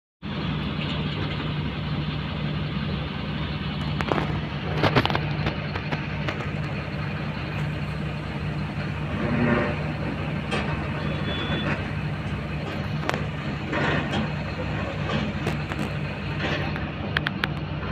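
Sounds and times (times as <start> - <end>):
diesel truck engine running: 0.2 - 17.9.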